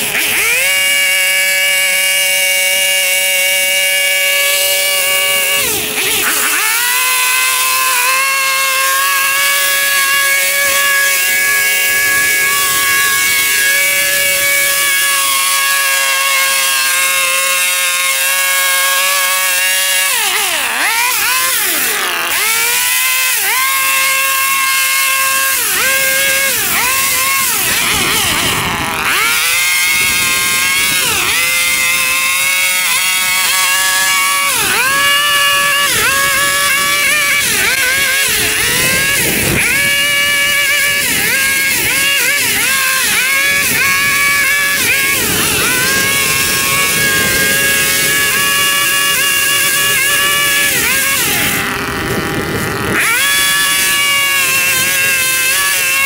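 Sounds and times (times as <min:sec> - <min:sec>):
small petrol engine cutting grass: 0:00.0 - 0:56.0.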